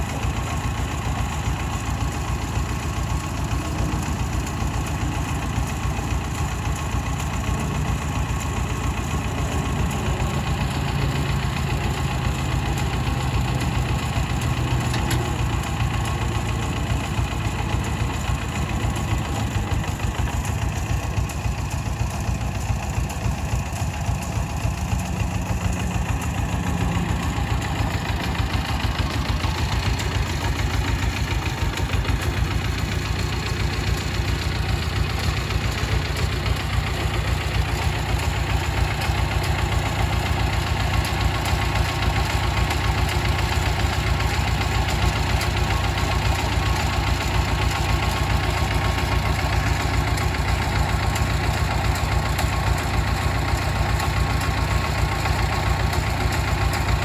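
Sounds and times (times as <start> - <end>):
tractor engine chugging: 0.0 - 57.0.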